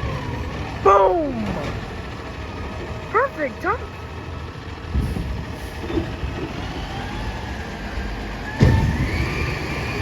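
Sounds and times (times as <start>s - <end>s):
garbage truck engine running: 0.0s - 10.0s.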